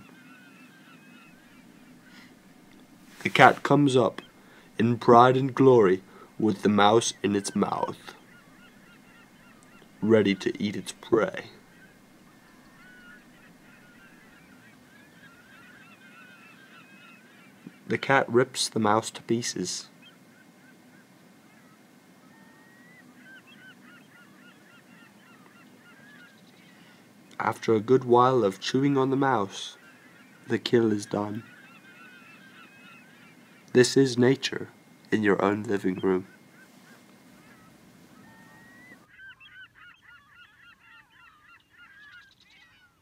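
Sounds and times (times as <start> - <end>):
faint bird chirping: 0.0 - 43.0.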